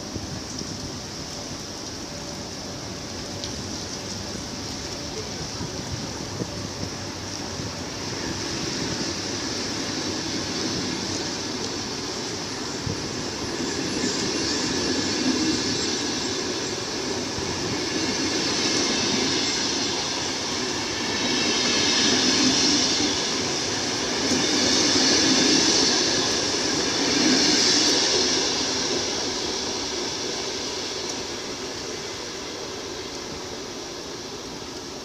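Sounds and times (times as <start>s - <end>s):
train coaches rolling on rails: 0.0s - 35.0s.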